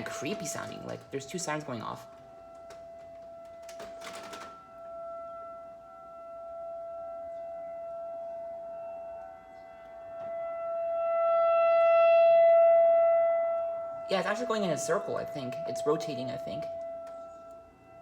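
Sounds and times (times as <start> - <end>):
warning siren steady tone: 0.0 - 18.0.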